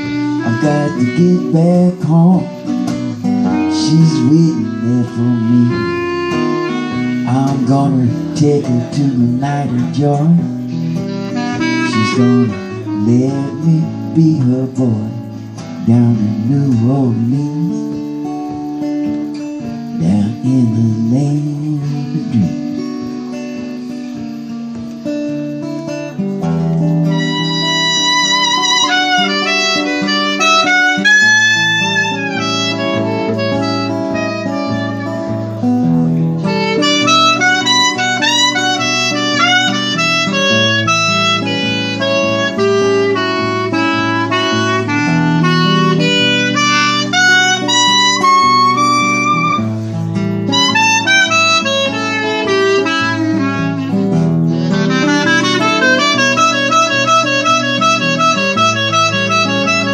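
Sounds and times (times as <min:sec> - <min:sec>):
clarinet melody with vibrato: 0:00.0 - 0:59.9
strummed acoustic guitar: 0:00.0 - 0:59.9.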